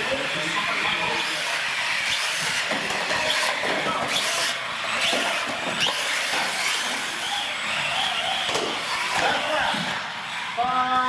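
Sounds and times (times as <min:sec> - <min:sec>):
toy truck motor whine: 0:00.0 - 0:11.0
tyres on concrete: 0:00.1 - 0:10.5.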